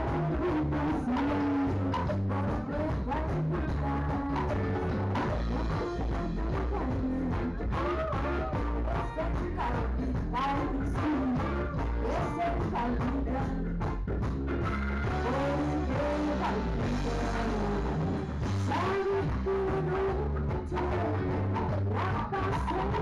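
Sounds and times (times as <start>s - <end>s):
lead singer singing: 0.0s - 13.8s, 15.0s - 23.0s
bass guitar: 0.0s - 23.0s
drum kit: 0.0s - 23.0s
electric guitars: 0.0s - 23.0s
keyboard: 0.0s - 23.0s.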